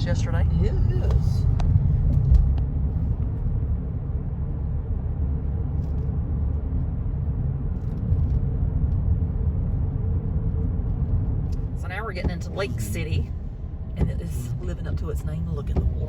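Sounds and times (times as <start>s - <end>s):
tyre and engine rumble: 0.0s - 16.0s.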